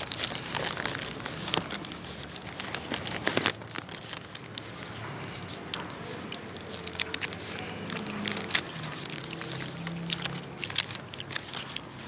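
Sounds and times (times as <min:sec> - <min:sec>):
person chewing chocolate bar: 0:00.0 - 0:12.0
small crunches and clicks: 0:00.0 - 0:12.0.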